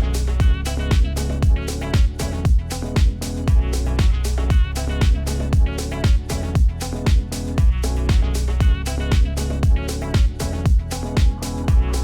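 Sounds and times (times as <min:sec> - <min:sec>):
kick drum beat: 0:00.0 - 0:11.9
electronic dance music: 0:00.0 - 0:12.0
synth chords: 0:00.0 - 0:12.0.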